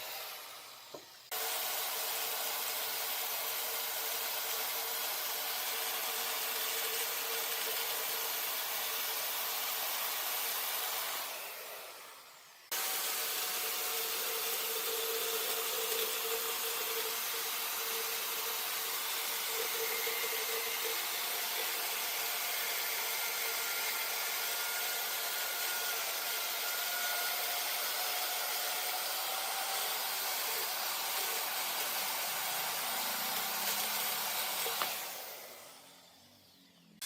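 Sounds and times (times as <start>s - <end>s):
wood lathe running: 0.0s - 37.0s.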